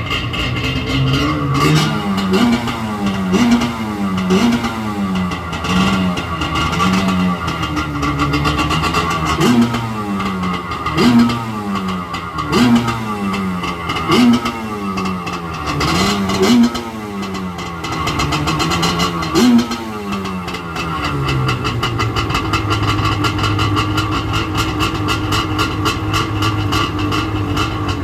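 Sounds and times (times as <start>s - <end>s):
jet ski engine revving: 0.0s - 28.0s.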